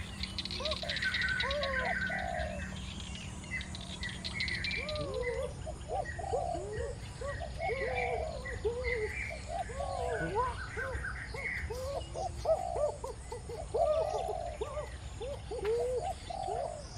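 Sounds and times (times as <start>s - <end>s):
birds chirping: 0.0s - 16.9s
low background noise: 0.0s - 16.9s.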